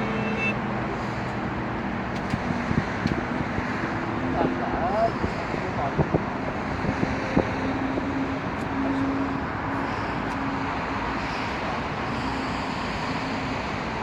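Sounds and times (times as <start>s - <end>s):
road traffic rumble: 0.0s - 14.0s
wind buffeting microphone: 0.0s - 14.0s.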